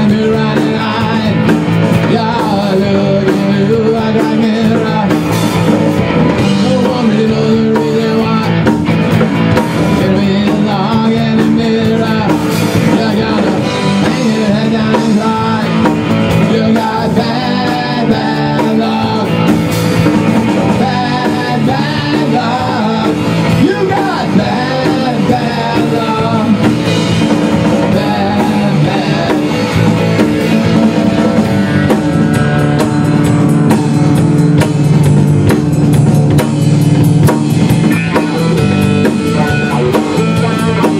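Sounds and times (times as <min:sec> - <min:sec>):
man singing lead: 0:00.0 - 0:34.6, 0:37.6 - 0:40.9
rock band playing live: 0:00.0 - 0:40.9.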